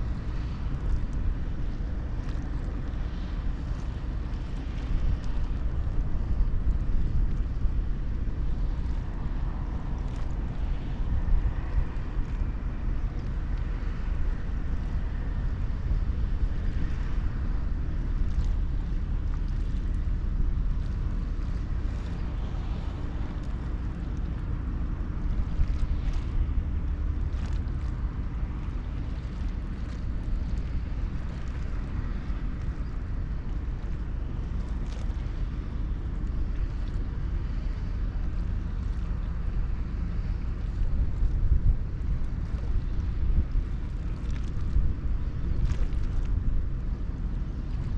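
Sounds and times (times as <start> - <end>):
ferry engine low rumble: 0.0 - 47.9
wind buffeting microphone: 0.0 - 47.9.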